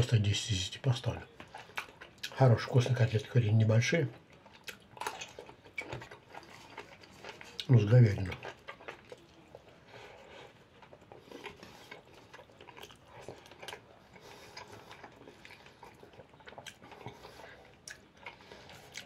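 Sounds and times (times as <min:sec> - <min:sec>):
man chewing food: 0:00.0 - 0:19.0.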